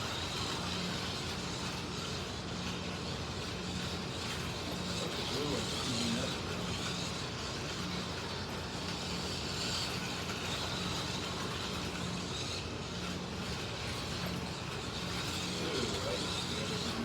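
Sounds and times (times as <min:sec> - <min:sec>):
slot car motors whining: 0:00.0 - 0:17.0.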